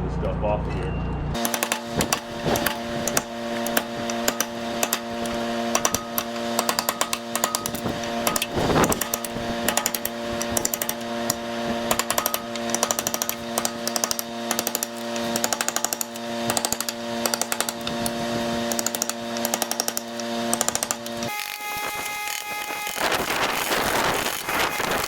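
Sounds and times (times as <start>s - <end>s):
power tool motor whine: 1.4s - 25.0s.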